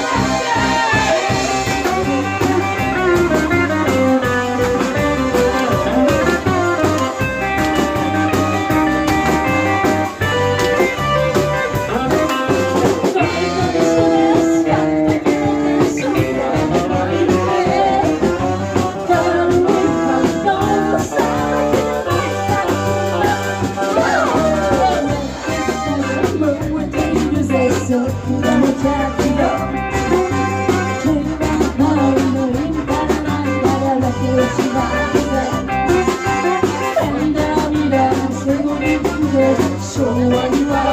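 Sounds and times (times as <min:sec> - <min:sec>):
electric guitar: 0:00.0 - 0:40.9
live band music: 0:00.0 - 0:40.9
person singing: 0:00.0 - 0:40.9.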